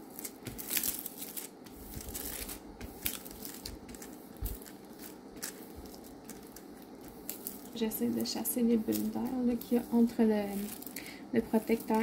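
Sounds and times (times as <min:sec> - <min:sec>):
hands rubbing plastic film: 0:00.0 - 0:12.0
plastic film crinkling: 0:00.0 - 0:12.0.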